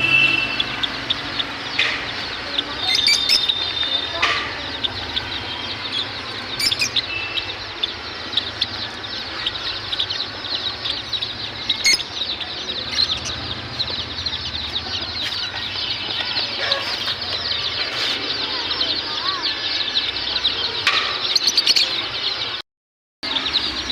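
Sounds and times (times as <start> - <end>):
caged birds chirping: 0.0 - 22.6, 23.2 - 23.9.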